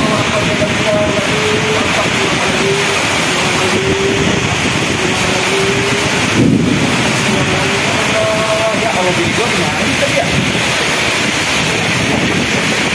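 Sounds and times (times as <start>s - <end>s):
heavy rain: 0.0s - 12.9s
low rumble: 0.0s - 12.9s
strong wind: 0.0s - 12.9s.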